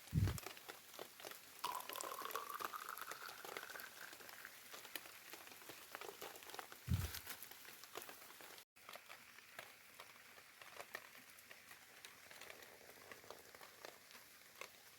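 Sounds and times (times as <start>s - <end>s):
faint rain pattering: 0.0s - 14.9s.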